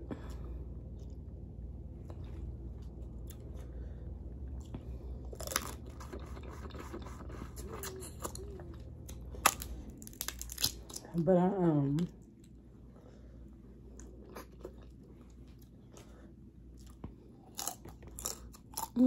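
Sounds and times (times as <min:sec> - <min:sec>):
low hum: 0:00.0 - 0:19.0
chewing and biting food: 0:00.3 - 0:03.7, 0:04.3 - 0:11.1, 0:13.9 - 0:19.0.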